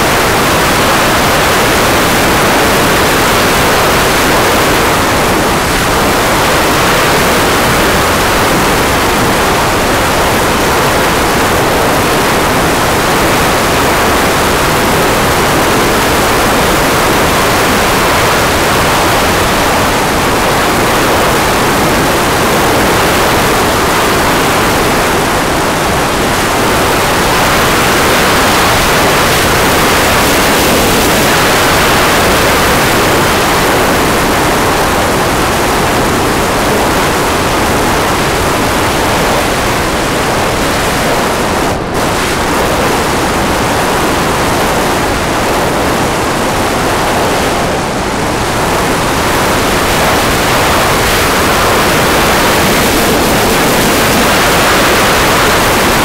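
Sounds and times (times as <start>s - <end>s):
wind rushing over camera: 0.0s - 56.0s.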